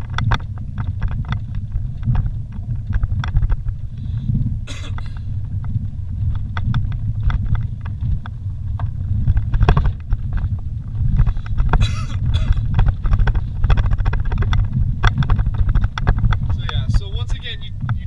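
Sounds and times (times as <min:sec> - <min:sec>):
engine and tyres rumbling: 0:00.0 - 0:18.0
vehicle rattles and knocks: 0:00.0 - 0:18.0.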